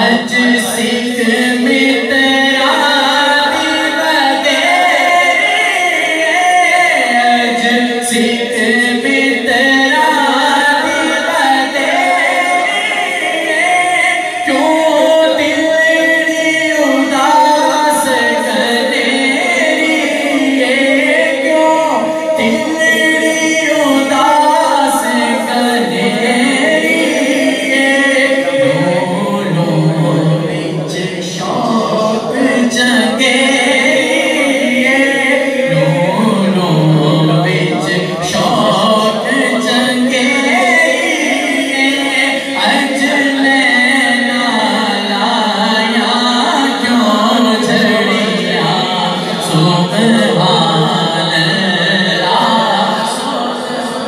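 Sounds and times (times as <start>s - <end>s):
men singing together: 0.0s - 54.0s
person singing into a microphone: 0.0s - 54.0s.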